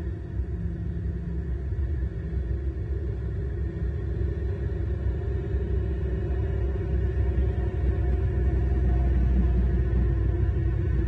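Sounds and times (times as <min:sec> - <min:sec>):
faint engine hum: 0:00.0 - 0:11.0.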